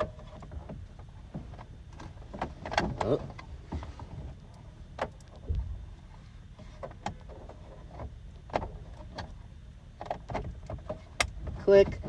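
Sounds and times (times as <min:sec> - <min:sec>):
faint low rumble: 0:00.0 - 0:12.0.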